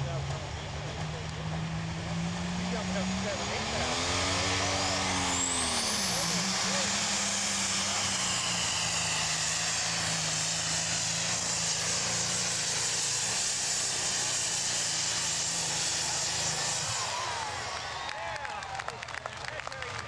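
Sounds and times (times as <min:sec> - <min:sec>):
tractor engine at high rpm: 0:00.0 - 0:20.0.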